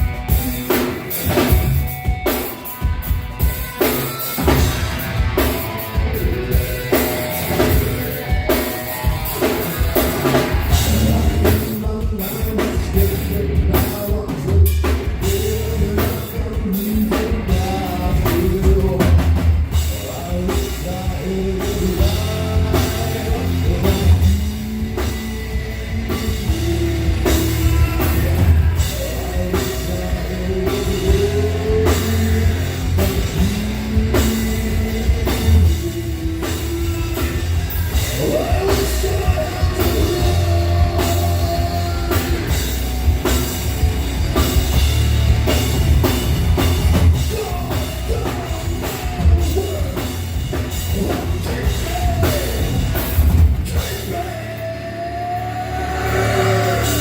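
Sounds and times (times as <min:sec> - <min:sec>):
pounding drum kit: 0:00.0 - 0:57.0
rock band playing live: 0:00.0 - 0:57.0.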